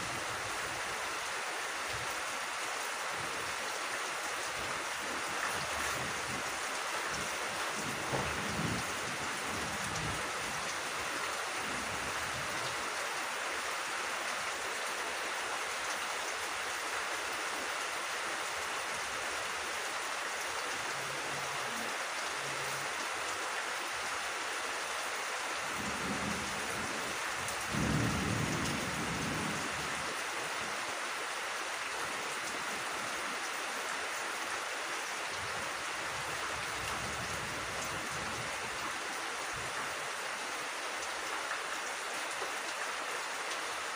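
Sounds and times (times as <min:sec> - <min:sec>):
rain on grass and leaves: 0:00.0 - 0:43.9.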